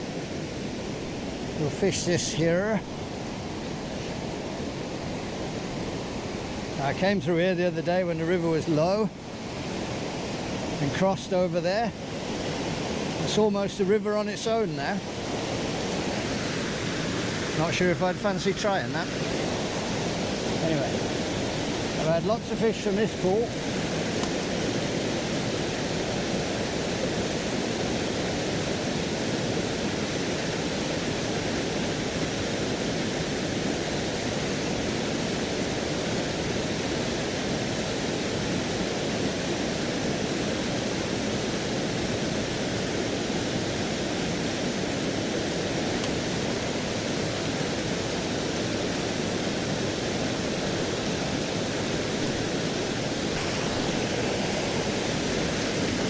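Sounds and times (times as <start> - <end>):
flooded river rushing: 0.0 - 56.0.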